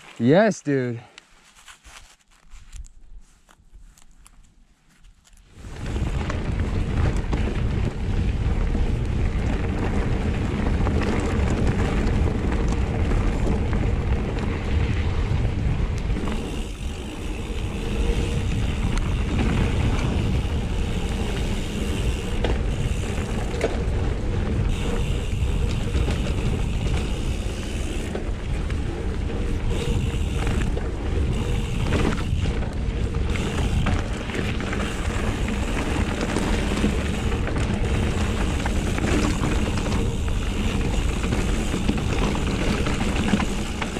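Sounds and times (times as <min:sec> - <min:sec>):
bike tyre and trail noise: 0:00.0 - 0:43.9
wind buffeting microphone: 0:05.5 - 0:43.9.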